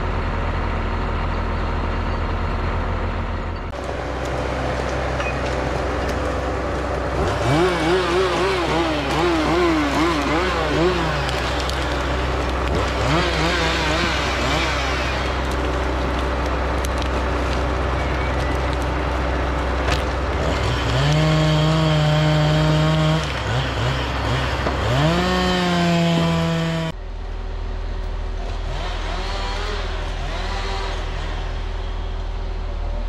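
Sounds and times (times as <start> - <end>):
diesel engines under load: 0.0 - 33.0.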